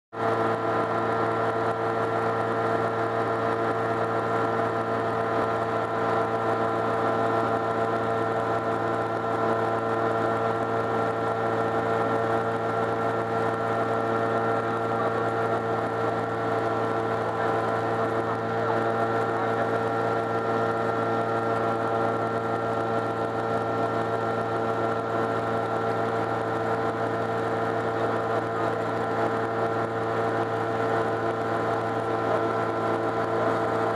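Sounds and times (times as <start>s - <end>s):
light aircraft engine drone: 0.2s - 33.9s.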